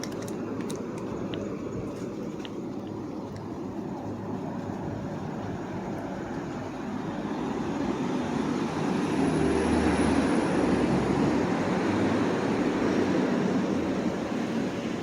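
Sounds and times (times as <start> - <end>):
passing engine rumble: 0.0 - 15.0
street hum: 0.0 - 15.0.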